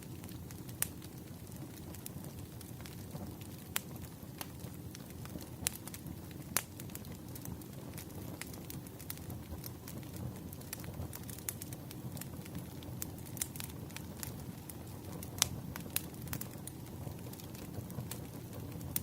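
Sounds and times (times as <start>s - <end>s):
campfire crackling and popping: 0.0s - 19.0s
low rumble of flame: 0.0s - 19.0s.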